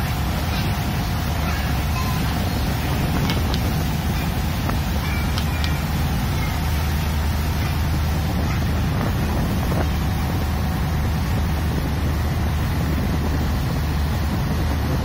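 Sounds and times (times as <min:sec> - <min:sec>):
boat engines droning: 0:00.0 - 0:15.0
rushing water and wind: 0:00.0 - 0:15.0.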